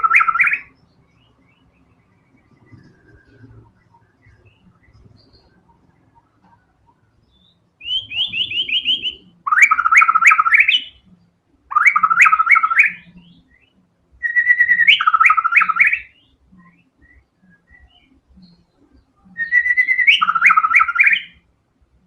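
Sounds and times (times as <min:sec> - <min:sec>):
songbird singing rapid bursts: 0:00.0 - 0:21.5.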